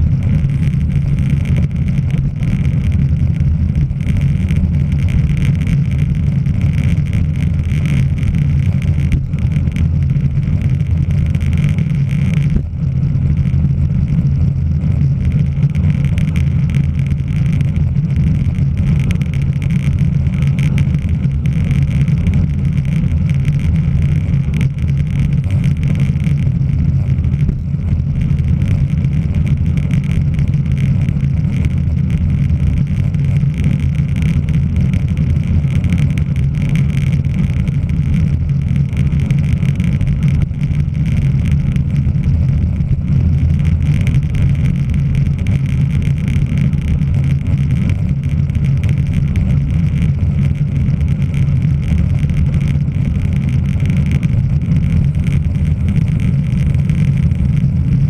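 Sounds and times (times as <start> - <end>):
road and tyre noise: 0.0 - 58.0.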